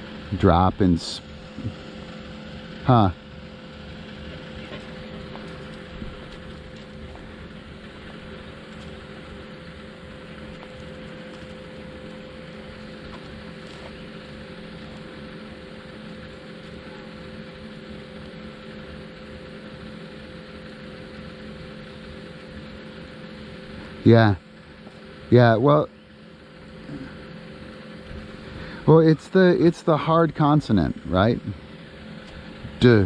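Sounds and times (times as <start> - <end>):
background hum and hiss: 0.0 - 33.0.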